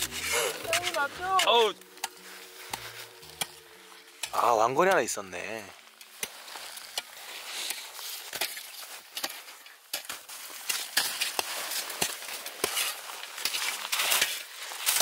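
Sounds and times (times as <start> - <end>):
packed snow crunching and scraping: 0.0 - 15.0.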